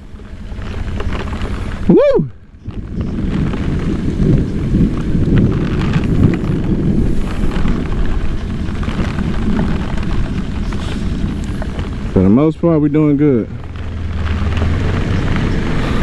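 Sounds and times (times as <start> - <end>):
motorcycle engine running: 0.0 - 16.0
wind and rain buffeting microphone: 0.0 - 16.0.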